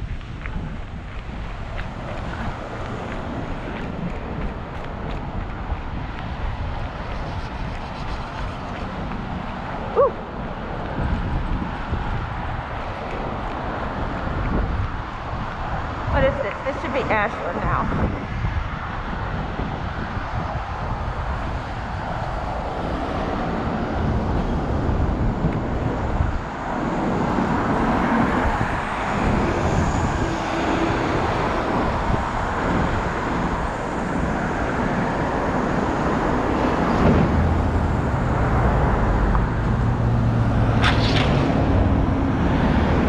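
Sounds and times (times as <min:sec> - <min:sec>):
cars passing: 0:00.0 - 0:43.0
steady engine hum: 0:00.0 - 0:43.0.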